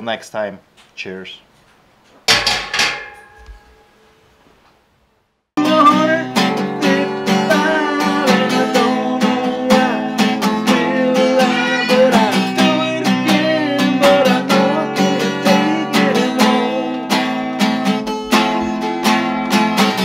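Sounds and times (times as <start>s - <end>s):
acoustic guitar strumming: 2.3s - 4.2s, 5.6s - 20.0s.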